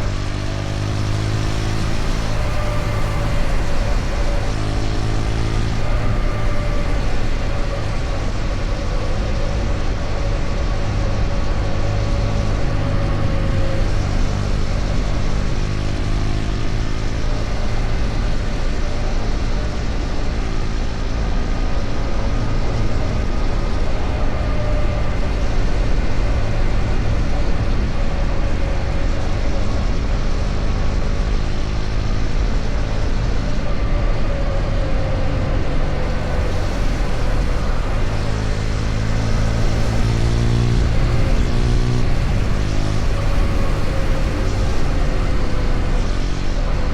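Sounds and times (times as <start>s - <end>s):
motorcycle engine running: 0.0s - 46.9s
road noise: 0.0s - 46.9s.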